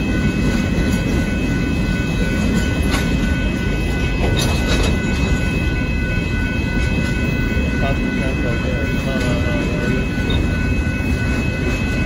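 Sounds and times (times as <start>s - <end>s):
freight train cars rumbling past: 0.0s - 12.0s
steady high ringing tone: 0.0s - 12.0s
train wheels clanking: 0.0s - 12.0s.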